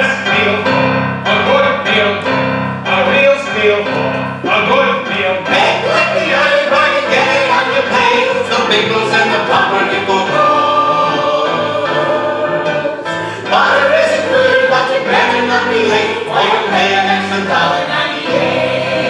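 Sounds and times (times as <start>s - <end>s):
musical accompaniment: 0.0s - 19.0s
group of people singing: 2.9s - 19.0s.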